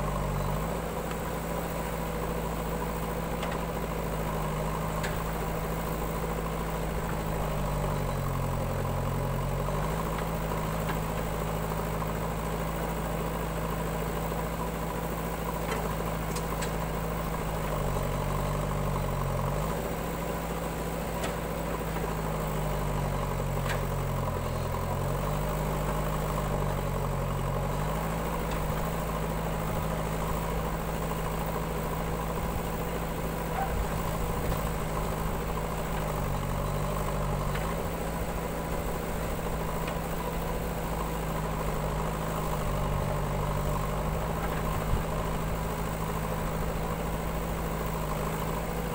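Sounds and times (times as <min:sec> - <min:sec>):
diesel engines running: 0:00.0 - 0:48.9.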